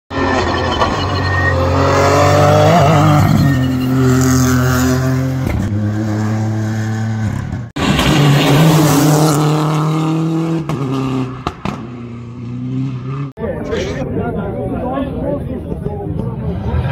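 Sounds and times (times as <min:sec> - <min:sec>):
rally car engines accelerating: 0:00.1 - 0:16.9.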